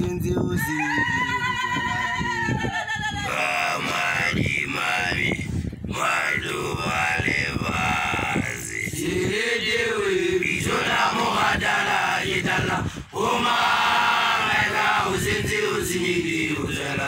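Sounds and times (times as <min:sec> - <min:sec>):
young men chanting: 0:03.2 - 0:17.0.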